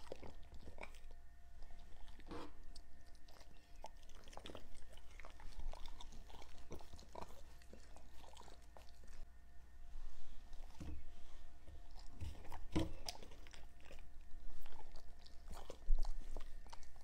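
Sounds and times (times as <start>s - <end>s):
dogs chewing and licking: 0.0s - 9.3s, 11.7s - 17.0s.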